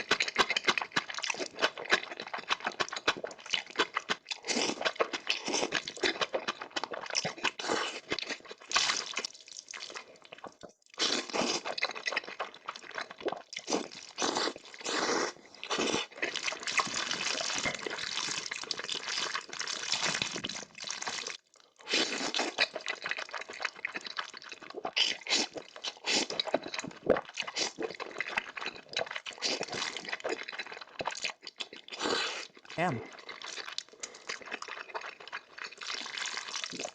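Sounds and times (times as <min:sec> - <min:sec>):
slurping noodles: 0:00.0 - 0:10.0, 0:11.0 - 0:36.9
chewing with smacking clicks: 0:00.0 - 0:36.9.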